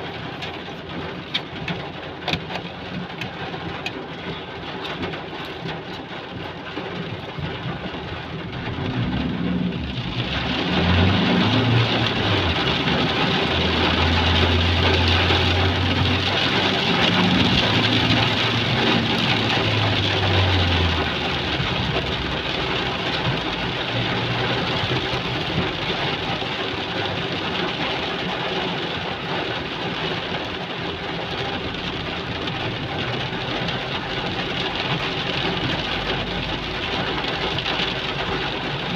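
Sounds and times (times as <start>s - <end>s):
heavy rain falling: 0.0s - 38.9s
vehicle engine running: 0.0s - 38.9s.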